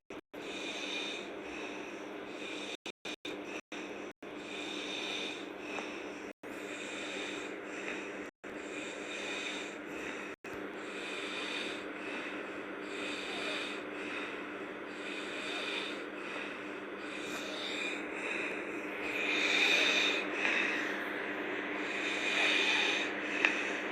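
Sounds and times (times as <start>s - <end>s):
girl snoring: 0.4s - 2.9s, 4.4s - 6.0s, 6.6s - 23.9s.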